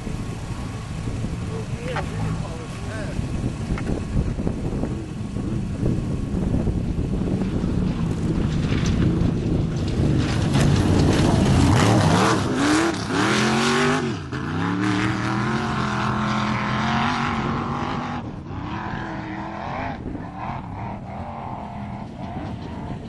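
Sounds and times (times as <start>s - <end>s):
race vehicle engine revving: 0.0s - 23.0s
vehicle rushing past: 0.0s - 23.0s.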